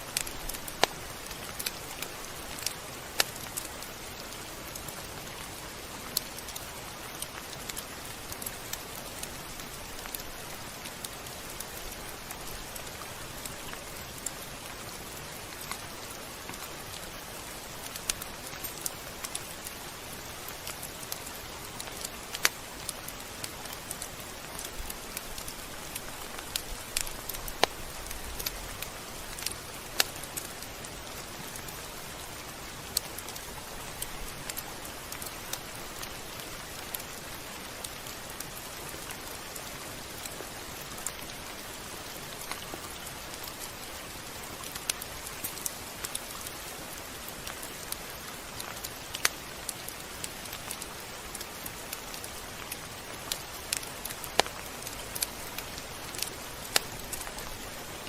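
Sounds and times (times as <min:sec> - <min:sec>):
raindrops striking surface: 0:00.0 - 0:58.0
steady rain hiss: 0:00.0 - 0:58.0.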